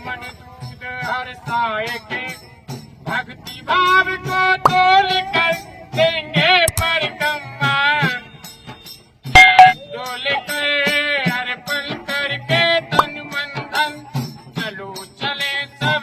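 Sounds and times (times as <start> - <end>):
jingling percussion: 0.0 - 16.0.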